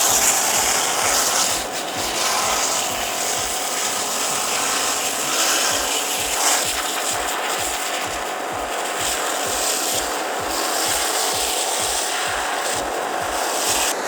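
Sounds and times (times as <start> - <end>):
pressure washer spraying cardboard: 0.0 - 14.0.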